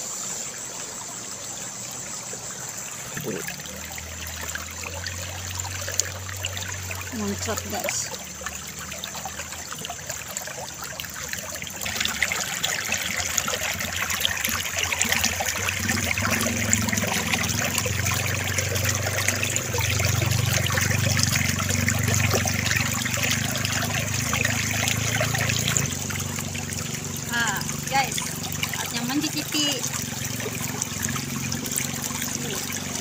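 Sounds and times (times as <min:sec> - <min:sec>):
water trickling along channel: 0:00.0 - 0:33.0.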